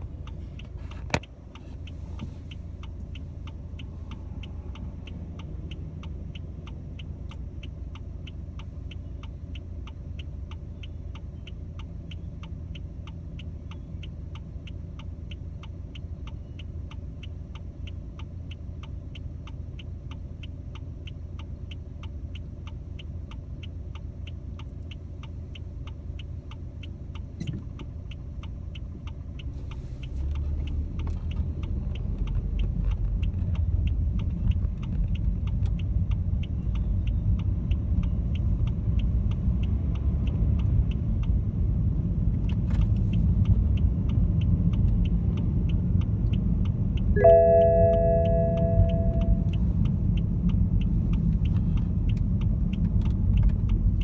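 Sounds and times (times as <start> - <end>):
car engine and road noise: 0.0 - 54.0
car engine idling: 0.0 - 54.0
car turn signal ticking: 0.0 - 54.0.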